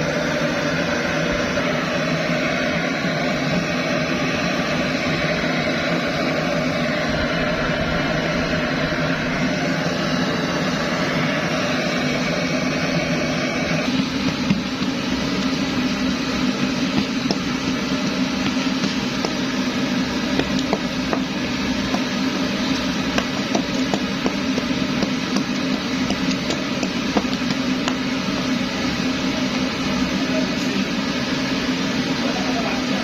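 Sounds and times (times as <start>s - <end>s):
stove burner rushing hiss: 0.0s - 33.0s.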